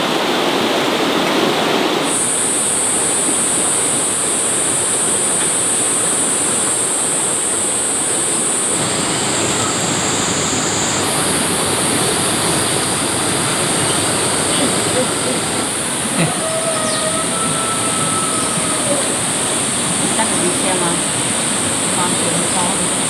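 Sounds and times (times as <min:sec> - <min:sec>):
heavy water rushing: 0:00.0 - 0:23.0.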